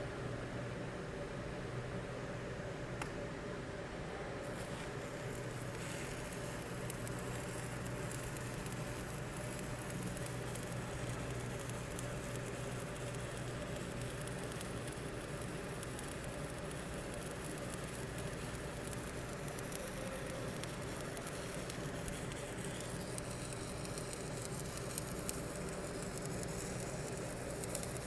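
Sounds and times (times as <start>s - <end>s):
welding arc crackling: 4.4s - 28.0s.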